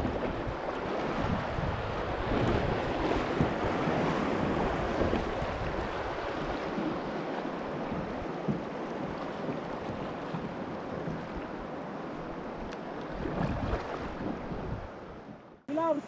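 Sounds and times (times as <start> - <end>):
wind buffeting microphone: 0.0 - 12.4, 13.1 - 15.6.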